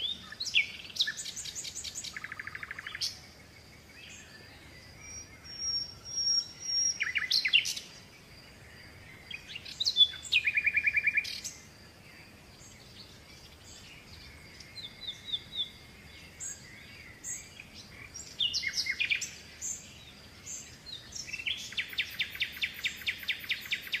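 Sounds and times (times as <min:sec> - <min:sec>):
bird trill: 0:00.0 - 0:03.3, 0:04.0 - 0:08.0, 0:08.9 - 0:11.7, 0:12.6 - 0:24.0
birds chirping and whistling: 0:00.0 - 0:08.1, 0:08.9 - 0:24.0.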